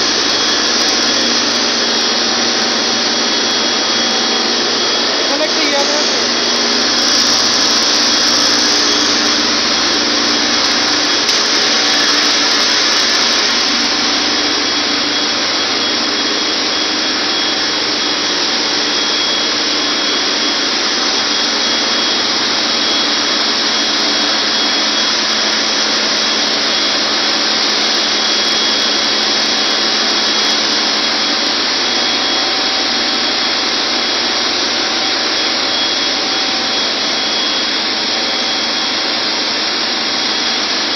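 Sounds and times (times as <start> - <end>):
engine room machinery running: 0.0 - 40.9
high whine: 0.0 - 40.9.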